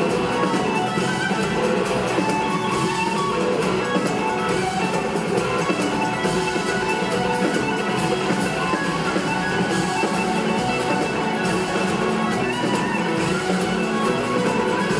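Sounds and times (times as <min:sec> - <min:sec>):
bass guitar: 0:00.0 - 0:14.9
drum kit with cymbal hits: 0:00.0 - 0:14.9
electric guitar: 0:00.0 - 0:14.9
keyboards: 0:00.0 - 0:14.9.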